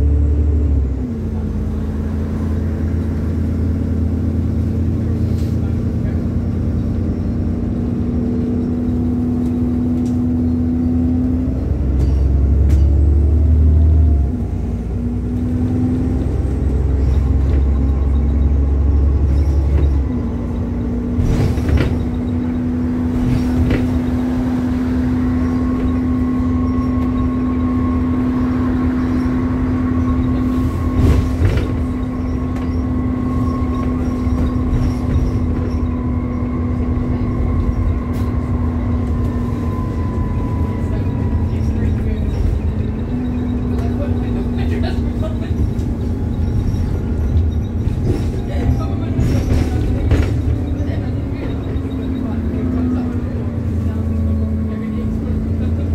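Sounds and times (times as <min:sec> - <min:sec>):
bus diesel engine droning: 0:00.0 - 0:55.9.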